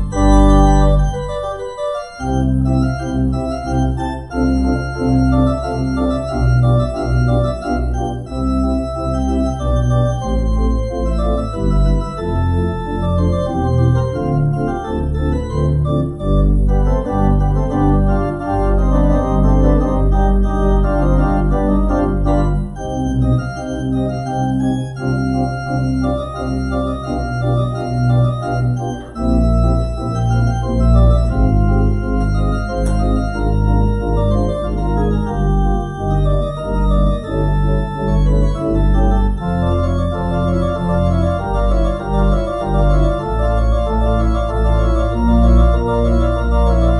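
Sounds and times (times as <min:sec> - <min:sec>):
church organ playing chords: 0:00.0 - 0:46.9.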